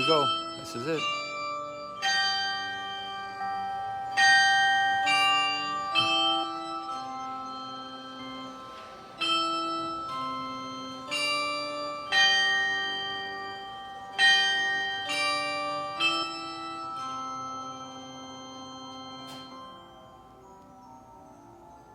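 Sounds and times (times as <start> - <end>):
grandfather clock chiming: 0.0 - 21.9.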